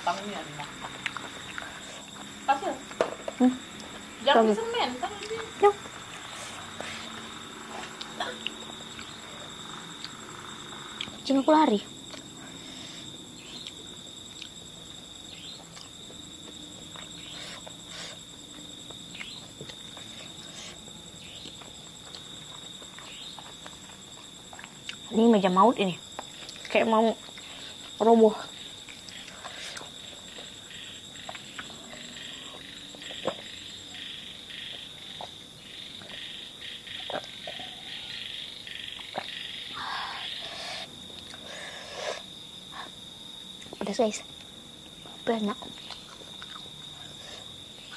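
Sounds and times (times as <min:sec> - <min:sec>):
crickets trilling: 0:00.0 - 0:47.9
frogs croaking chorus: 0:00.0 - 0:47.9.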